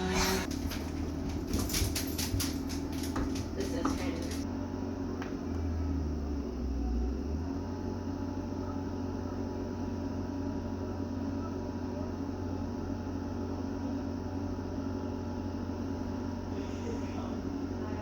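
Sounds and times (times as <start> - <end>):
loader engine droning: 0.0 - 18.0.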